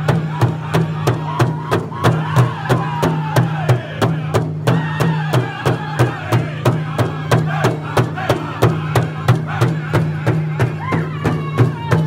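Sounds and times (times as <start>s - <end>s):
high-pitched group singing: 0.0s - 11.9s
big drum steady beat: 0.0s - 12.0s.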